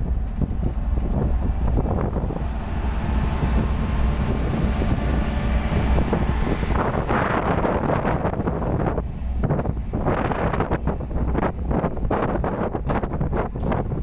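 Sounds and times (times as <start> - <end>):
low rumble of ship: 0.0 - 14.0
wind buffeting microphone: 0.0 - 14.0.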